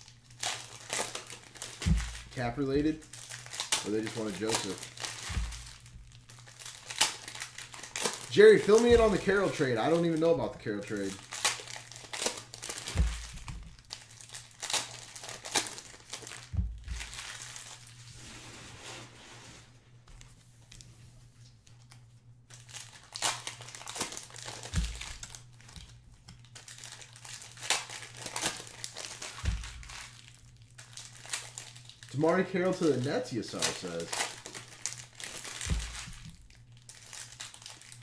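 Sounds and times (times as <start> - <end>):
wrappers tearing and crinkling: 0.0 - 18.2, 21.6 - 38.0.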